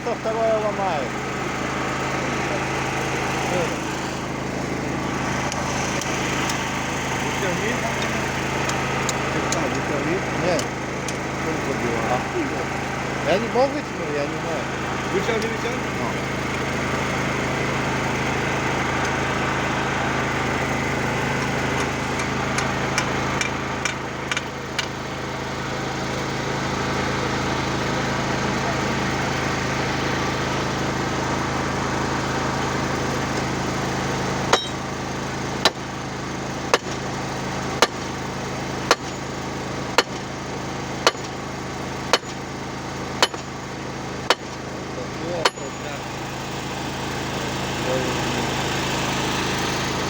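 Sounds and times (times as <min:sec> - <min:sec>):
engine running steadily: 0:00.0 - 0:50.0.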